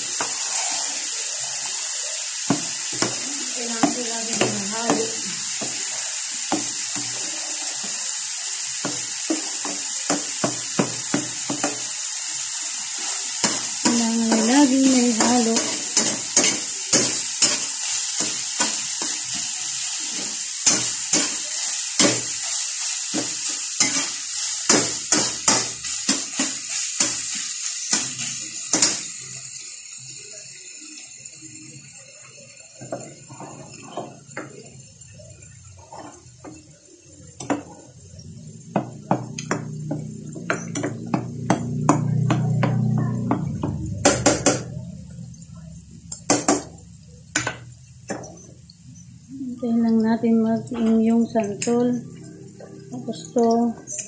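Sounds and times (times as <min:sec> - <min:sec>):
meat sizzling in wok: 0:00.0 - 0:54.0.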